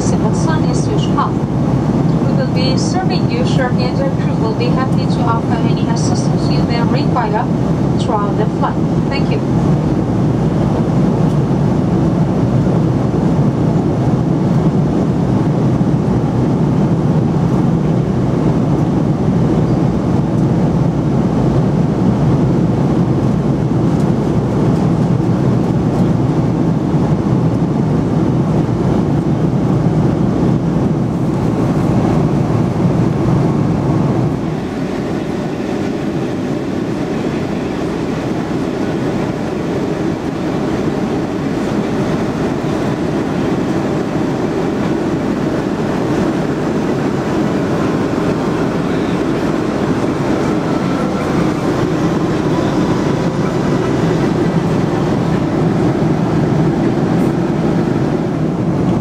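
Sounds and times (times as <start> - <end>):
airflow past fuselage: 0.0 - 59.0
jet engine drone: 0.0 - 59.0.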